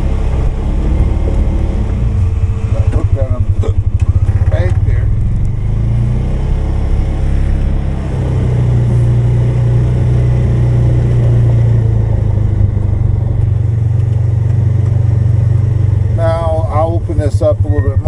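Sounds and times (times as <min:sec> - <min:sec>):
snowmobile engine running under load: 0:00.0 - 0:18.0.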